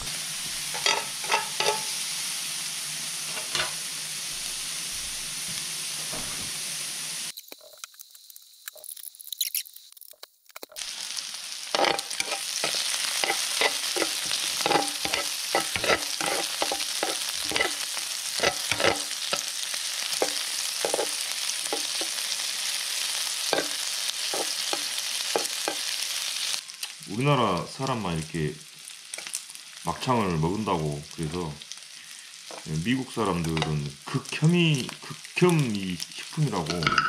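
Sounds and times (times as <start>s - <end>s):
meat sizzling and crackling in pan: 0.0s - 37.0s.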